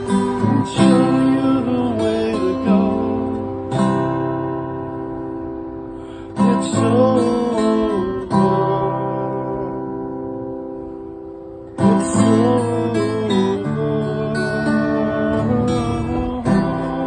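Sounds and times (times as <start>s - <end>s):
acoustic guitar strumming: 0.0s - 17.0s
sliding guitar melody: 0.0s - 17.0s.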